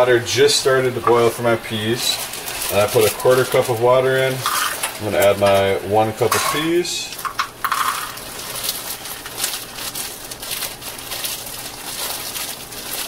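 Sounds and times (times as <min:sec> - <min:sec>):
frozen peas pattering into a pan: 0:00.0 - 0:13.0.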